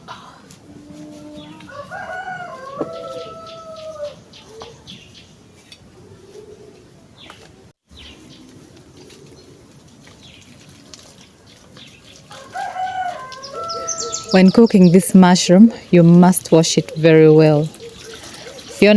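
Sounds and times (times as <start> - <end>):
small birds chirping: 2.8 - 6.4, 7.2 - 18.9.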